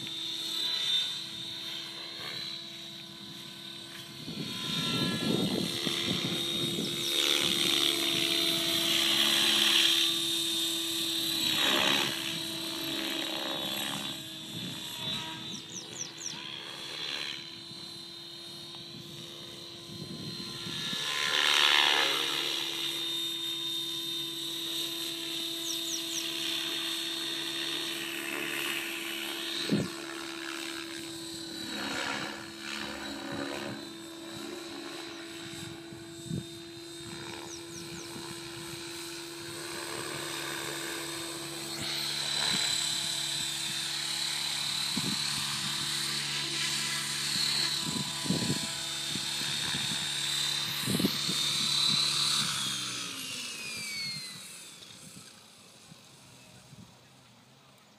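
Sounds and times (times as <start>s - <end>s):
model helicopter rotor whining: 0.0s - 57.9s.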